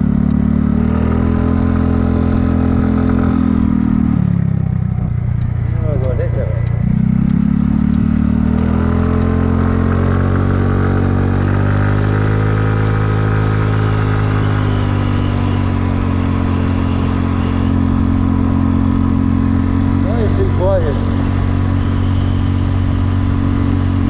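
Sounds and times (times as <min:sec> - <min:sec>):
scooter engine cruising: 0:00.0 - 0:24.0.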